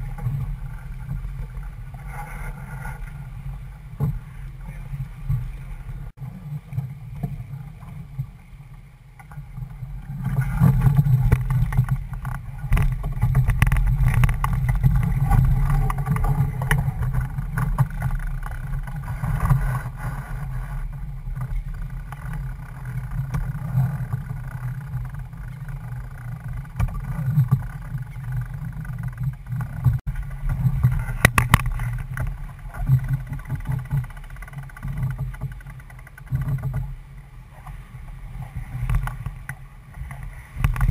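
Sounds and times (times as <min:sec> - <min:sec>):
water rushing along hull: 0:00.0 - 0:40.9
wind buffeting microphone: 0:00.0 - 0:40.9.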